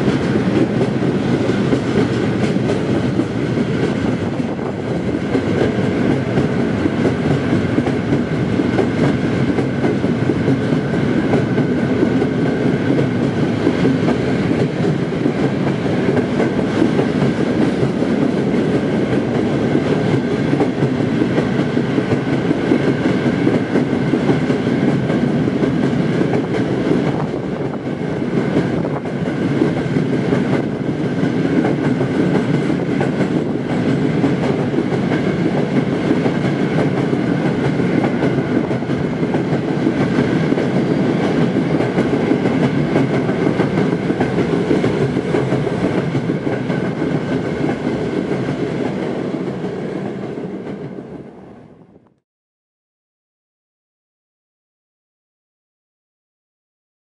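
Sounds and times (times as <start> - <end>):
freight train wagons rumbling past: 0.0 - 52.0.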